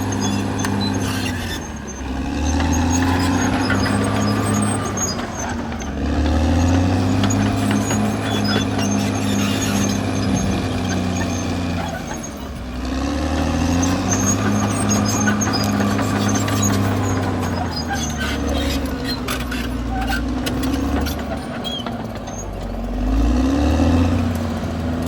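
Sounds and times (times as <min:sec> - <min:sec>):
bulldozer diesel engine under load: 0:00.0 - 0:25.0.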